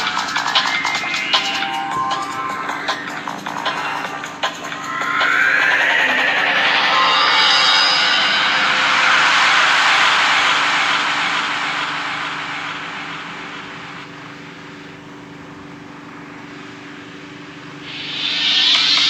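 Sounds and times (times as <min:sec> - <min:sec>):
loud rushing noise: 0:00.0 - 0:14.4, 0:17.9 - 0:19.0
steady low hum: 0:00.0 - 0:19.0.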